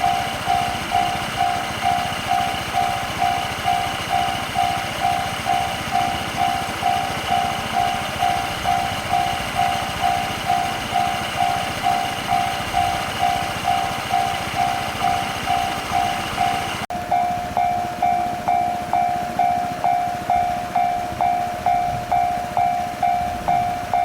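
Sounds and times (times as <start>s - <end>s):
level crossing warning bell ringing: 0.0s - 24.0s.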